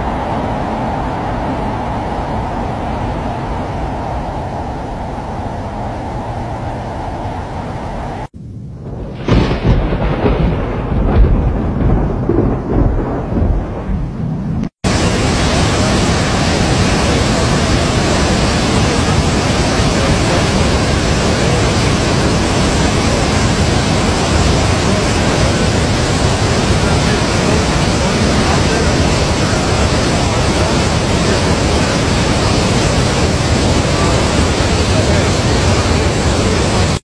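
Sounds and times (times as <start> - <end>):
heavy downpour hiss: 0.0 - 14.2, 14.8 - 37.0
low storm rumble: 0.0 - 37.0.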